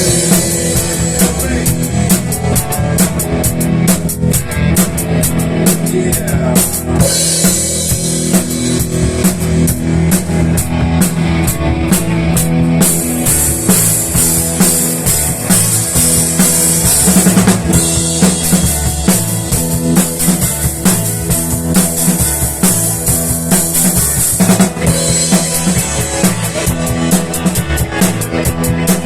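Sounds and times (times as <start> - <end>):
instrumental rock band: 0.0 - 29.0.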